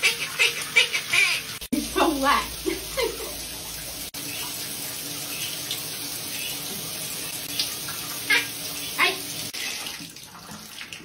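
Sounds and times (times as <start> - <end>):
shower spray running: 0.0 - 10.2.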